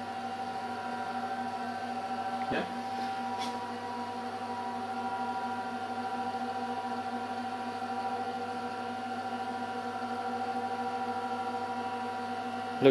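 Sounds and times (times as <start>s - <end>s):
electrical hum of lab equipment: 0.0s - 12.9s.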